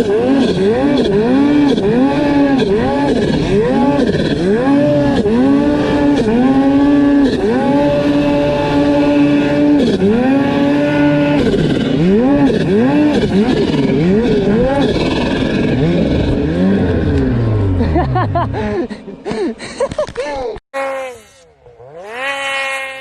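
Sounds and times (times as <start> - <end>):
snowmobile engine revving: 0.0 - 18.7, 20.8 - 23.0.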